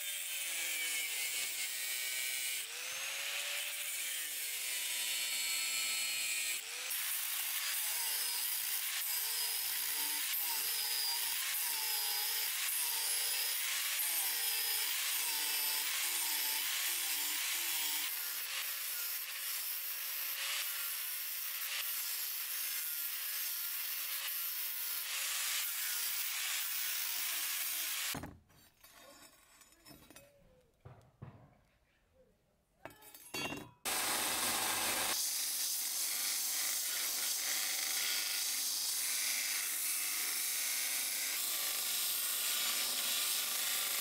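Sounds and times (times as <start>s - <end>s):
angle grinder cutting metal: 0.0s - 30.2s, 33.4s - 44.0s.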